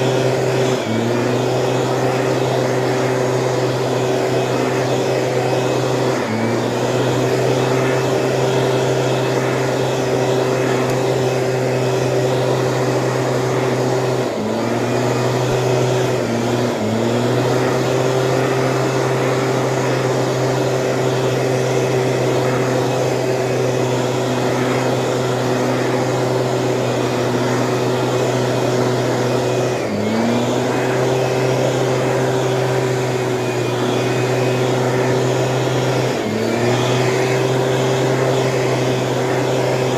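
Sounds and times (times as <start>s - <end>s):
two-stroke sprayer engine running: 0.0s - 39.9s.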